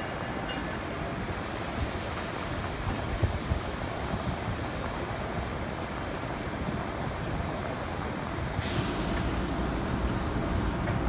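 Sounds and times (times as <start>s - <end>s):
stationary train rumble and hiss: 0.0s - 11.0s.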